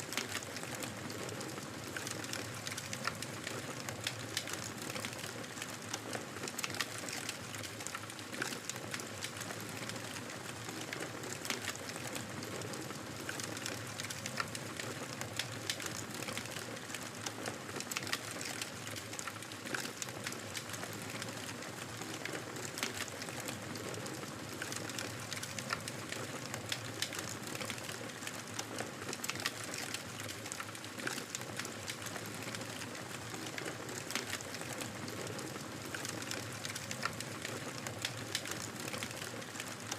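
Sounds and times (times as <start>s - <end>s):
fire crackling and hissing: 0.1s - 39.9s.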